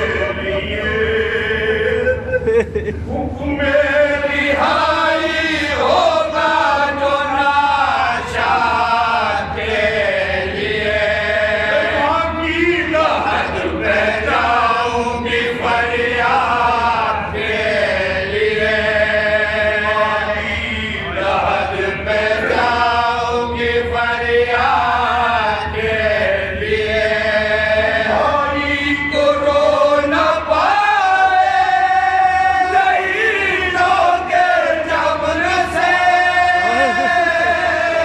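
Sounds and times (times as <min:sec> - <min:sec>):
men chanting in unison: 0:00.0 - 0:02.3, 0:03.2 - 0:38.0.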